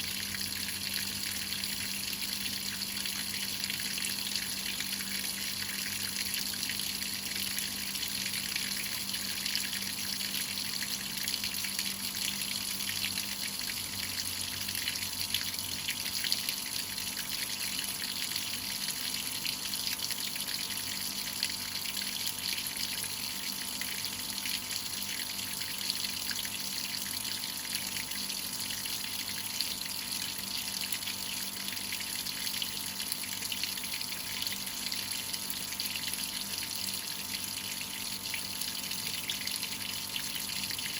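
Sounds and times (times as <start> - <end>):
water running into washing machine: 0.0 - 40.9.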